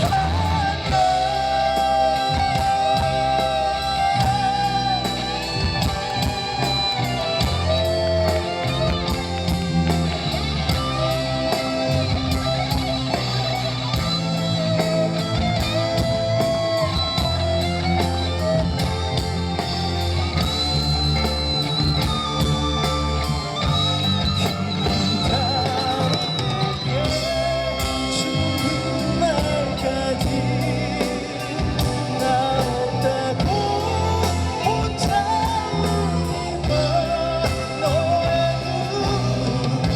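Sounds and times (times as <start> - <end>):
bass guitar: 0.0 - 39.9
drums: 0.0 - 39.9
lead guitar melody: 0.0 - 39.9.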